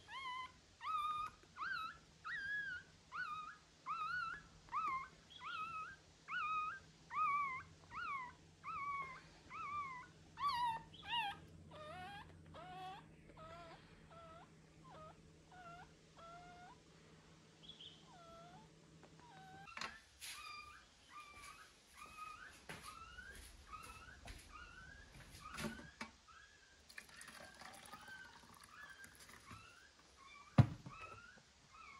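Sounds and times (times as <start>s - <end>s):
puppy whimpering: 0.0s - 16.8s, 18.1s - 26.6s, 27.8s - 31.9s.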